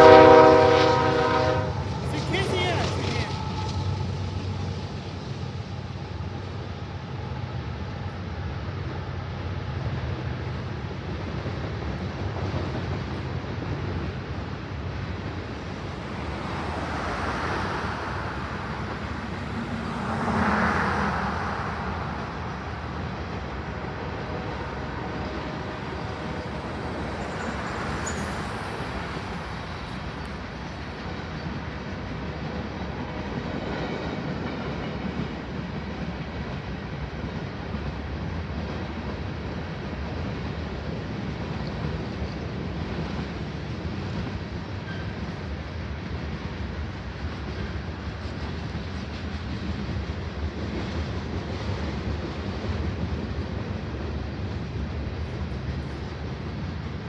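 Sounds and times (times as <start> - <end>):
freight train cars rolling: 0.0 - 57.0
road cars passing: 0.0 - 57.0.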